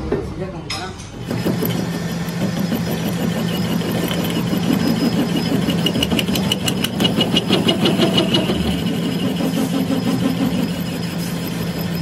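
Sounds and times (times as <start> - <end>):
fast ticking of cutting tool: 1.2 - 12.0
metal lathe motor hum: 1.2 - 12.0.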